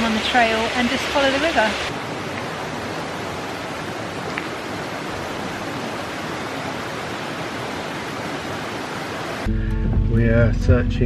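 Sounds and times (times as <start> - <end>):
waterfall rushing: 0.0 - 9.5.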